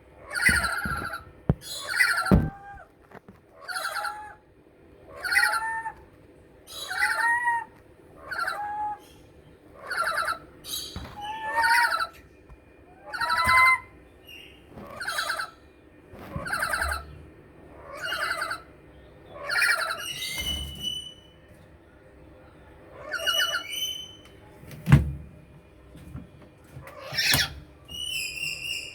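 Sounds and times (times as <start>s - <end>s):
lories calling: 0.1s - 2.9s, 3.6s - 21.5s, 22.8s - 24.4s, 26.8s - 28.9s.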